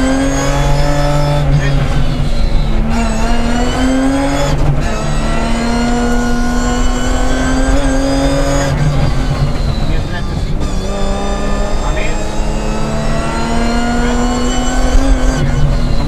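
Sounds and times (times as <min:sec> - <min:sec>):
rally car engine at full load: 0:00.0 - 0:16.0.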